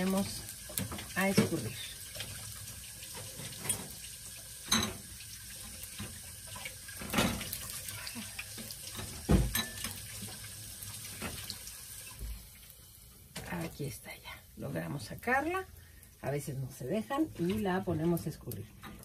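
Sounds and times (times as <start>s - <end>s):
hot oil sizzling in a pan: 0.0s - 19.0s.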